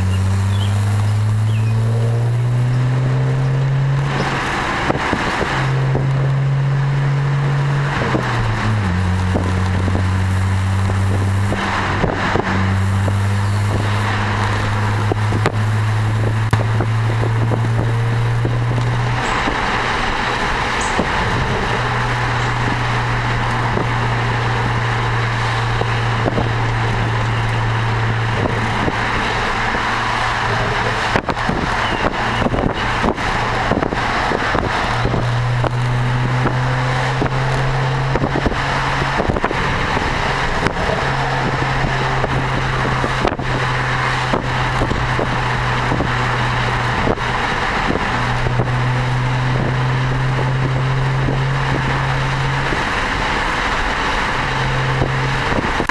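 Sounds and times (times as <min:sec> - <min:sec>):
car exhaust drone: 0:00.0 - 0:55.9
road and wind noise: 0:00.0 - 0:55.9.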